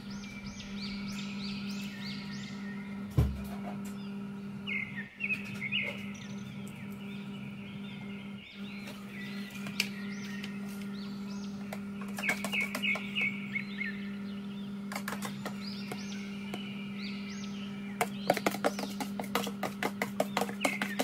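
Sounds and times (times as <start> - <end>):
small bird chirping: 0.0 - 3.1, 3.9 - 21.0
steady low hum: 0.0 - 21.0.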